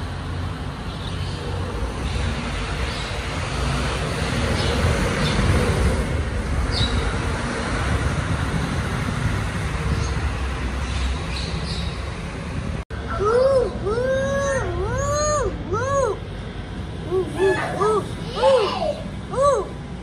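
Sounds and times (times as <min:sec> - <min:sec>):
diesel truck engine rumbling: 0:01.5 - 0:20.0.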